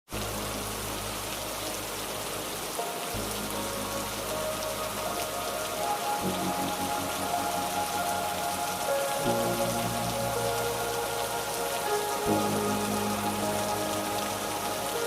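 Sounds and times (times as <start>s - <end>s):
rain pattering on leaves: 0.1s - 15.0s
soft sustained music chords: 0.2s - 15.0s.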